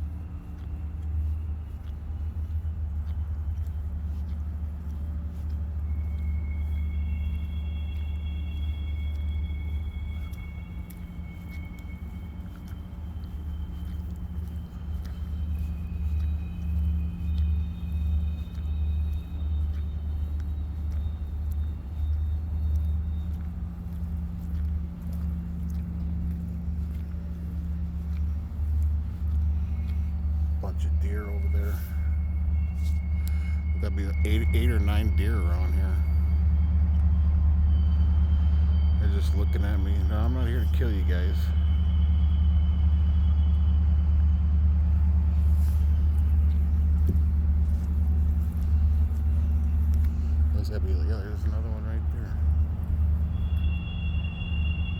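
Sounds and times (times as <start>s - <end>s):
faint high steady tones: 0.0s - 54.9s
low rumble with hum: 0.0s - 54.9s.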